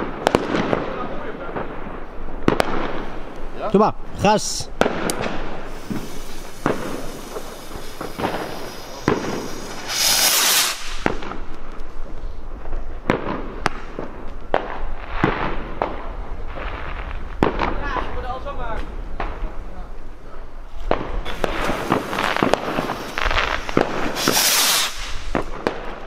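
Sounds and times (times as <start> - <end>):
firework bangs and cracks: 0.0 - 26.0
firework rocket whooshing: 0.0 - 26.0.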